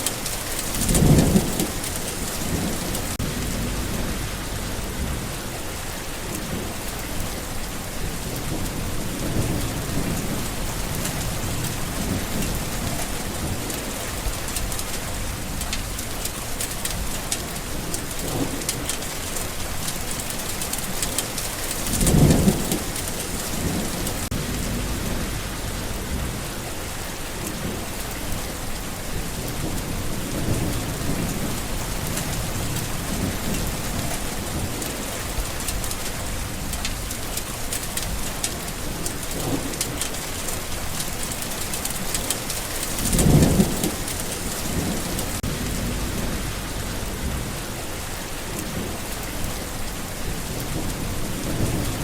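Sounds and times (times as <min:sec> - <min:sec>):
steady rain falling: 0:00.0 - 0:52.0
thunder rumbling: 0:00.0 - 0:52.0.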